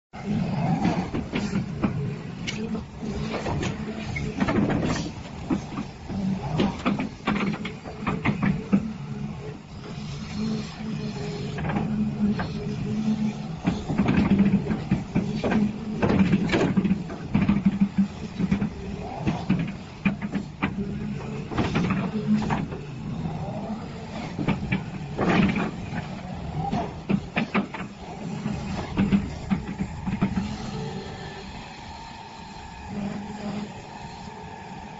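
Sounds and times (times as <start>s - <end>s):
excavator diesel engine humming: 0.2s - 34.9s.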